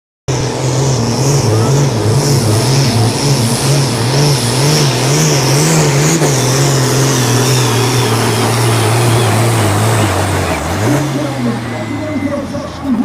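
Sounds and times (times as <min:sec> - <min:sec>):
tractor engine running at high revs: 0:00.3 - 0:13.0.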